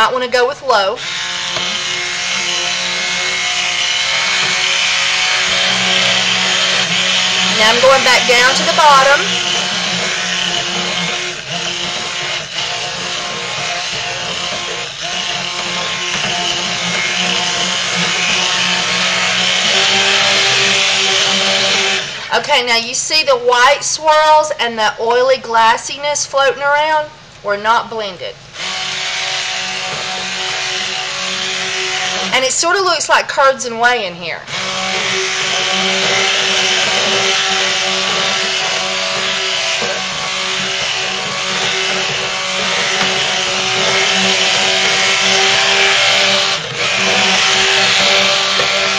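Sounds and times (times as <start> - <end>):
stick blender motor whir: 0.8 - 22.5, 28.5 - 33.2, 34.4 - 48.9
liquid churning: 1.0 - 22.3, 28.6 - 32.4, 34.5 - 48.9.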